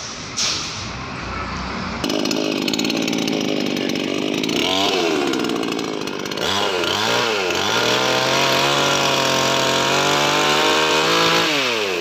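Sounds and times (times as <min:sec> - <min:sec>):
chainsaw engine revving: 0:02.0 - 0:12.0.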